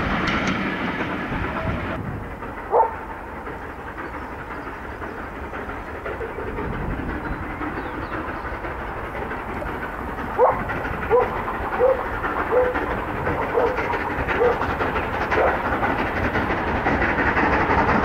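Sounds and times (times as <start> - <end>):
distant steam locomotives working: 0.0 - 18.0.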